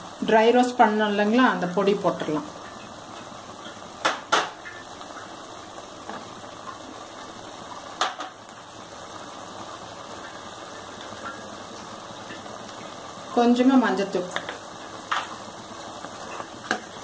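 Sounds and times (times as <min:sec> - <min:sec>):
chicken sauteing: 0:00.0 - 0:17.0.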